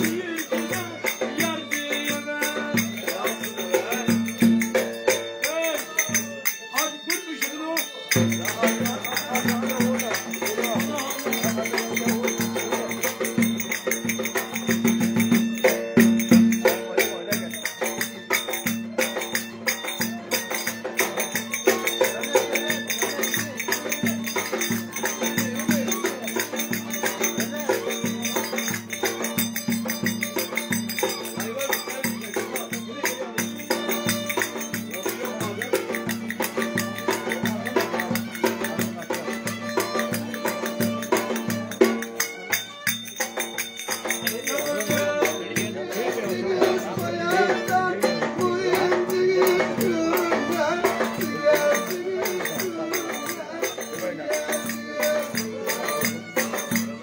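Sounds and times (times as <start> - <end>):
violin melody: 0.0 - 16.0, 17.1 - 57.0
drum beating a rhythm: 0.0 - 57.0.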